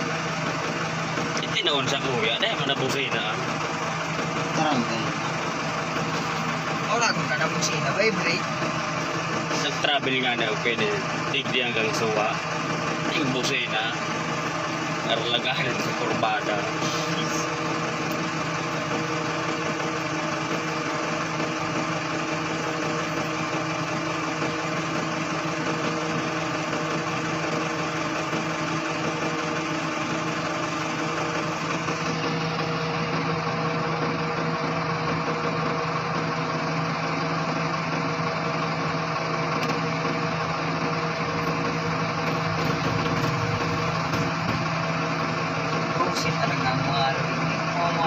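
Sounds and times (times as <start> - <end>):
diesel engine running steadily: 0.0 - 48.0.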